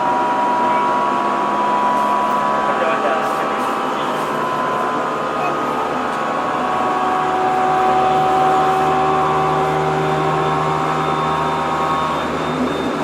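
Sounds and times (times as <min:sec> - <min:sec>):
traction motor whine: 0:00.0 - 0:13.0
wheels rumbling on rail: 0:00.0 - 0:13.0.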